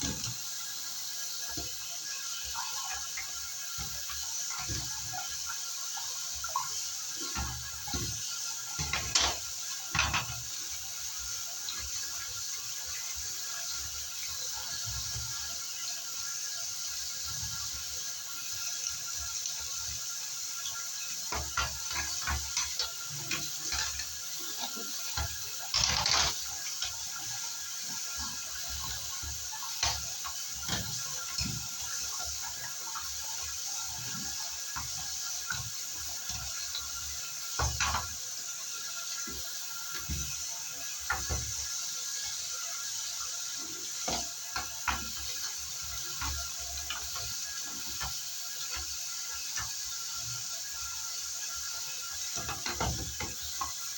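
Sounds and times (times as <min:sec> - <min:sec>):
water running and splashing: 0:00.0 - 0:53.9.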